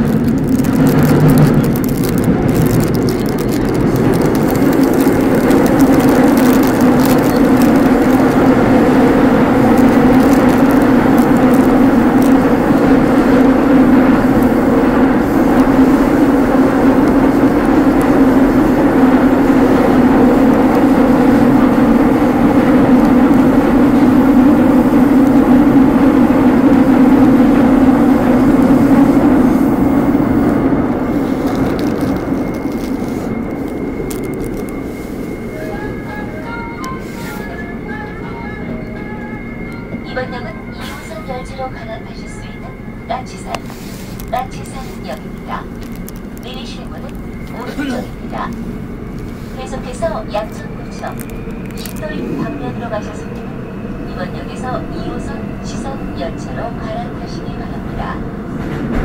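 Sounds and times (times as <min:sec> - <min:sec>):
subway train rumbling: 0:00.0 - 0:59.0.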